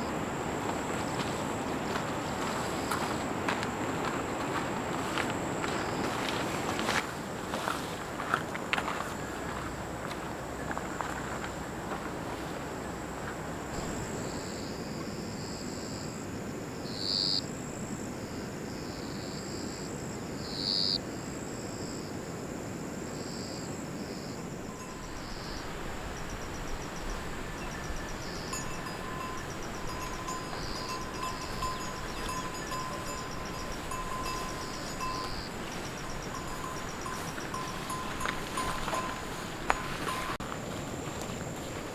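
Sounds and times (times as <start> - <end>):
insects buzzing: 0.0 - 16.2, 23.1 - 41.9
insects chirping: 0.0 - 41.9.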